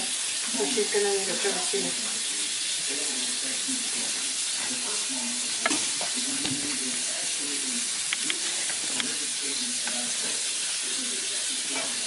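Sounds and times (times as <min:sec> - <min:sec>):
pot boiling hiss: 0:00.0 - 0:12.0.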